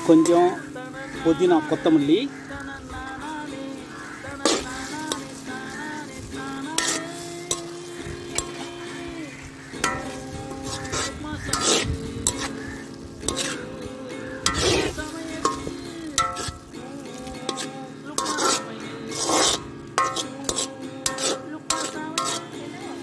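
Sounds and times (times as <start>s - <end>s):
food sizzling: 0.0s - 23.0s
metal ladle scraping a wok: 0.0s - 23.0s.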